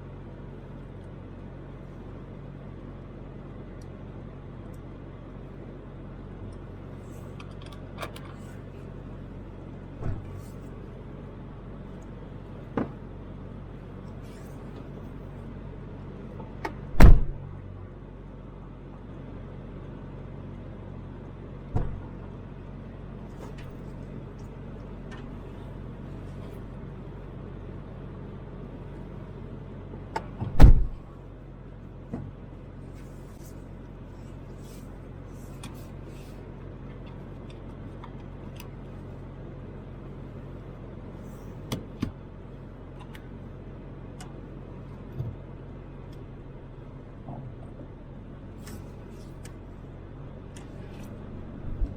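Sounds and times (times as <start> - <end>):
vehicle driving heard from cabin: 0.0 - 51.9.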